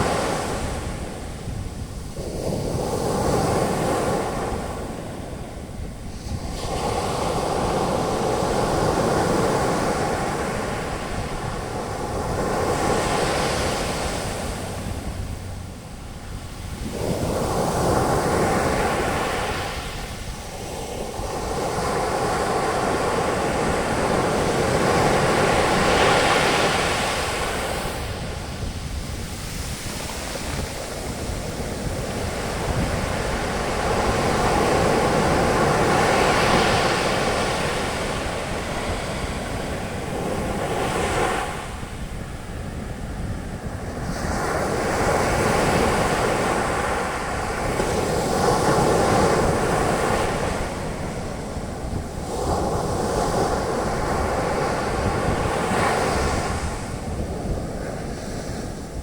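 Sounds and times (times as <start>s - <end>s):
wind on microphone: 0.0s - 59.0s
ocean waves breaking: 6.4s - 59.0s.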